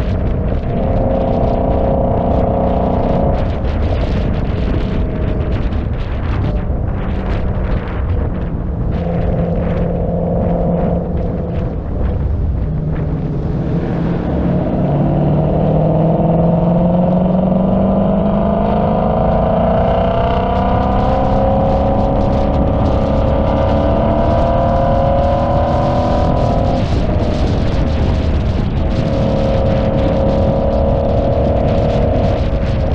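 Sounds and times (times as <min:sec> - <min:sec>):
car engine running under load: 0:00.0 - 0:32.9
road and wind noise: 0:00.0 - 0:32.9.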